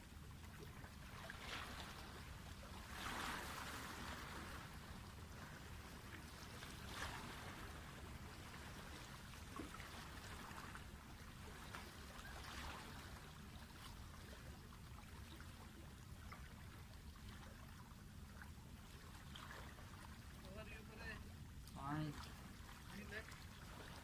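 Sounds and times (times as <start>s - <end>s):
low steady rumble: 0.0s - 24.0s
water lapping and trickling: 0.0s - 24.0s.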